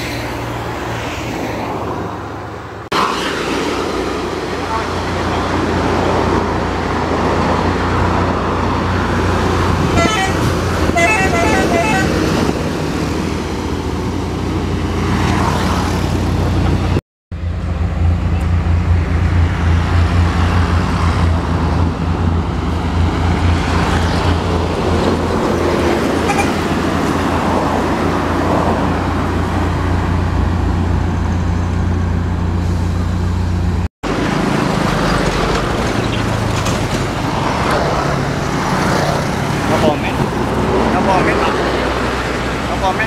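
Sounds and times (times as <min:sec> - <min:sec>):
road traffic running past: 0:00.0 - 0:43.0.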